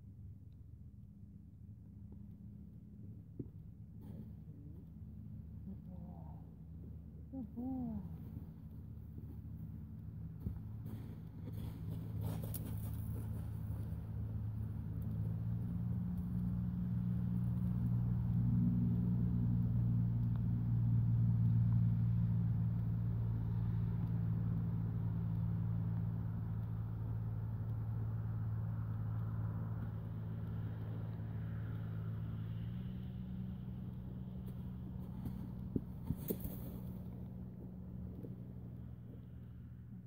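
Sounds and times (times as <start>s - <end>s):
low engine drone: 0.0s - 40.0s.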